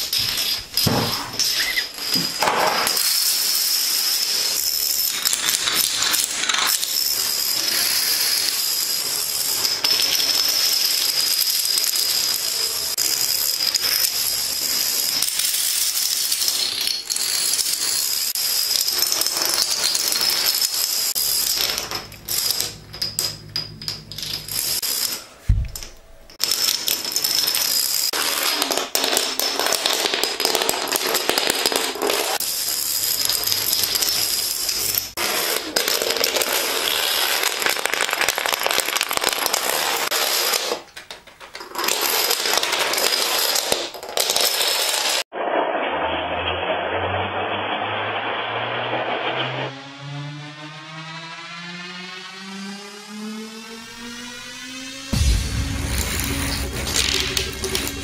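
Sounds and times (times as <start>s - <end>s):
toy dominoes clattering: 0.0s - 45.3s, 56.8s - 58.0s.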